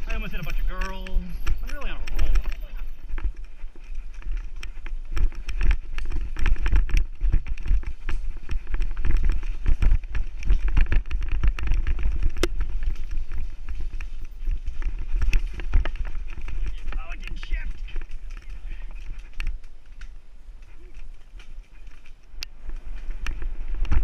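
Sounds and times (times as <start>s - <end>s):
bike frame rattling: 0.0s - 24.0s
wind rumble on microphone: 0.0s - 24.0s.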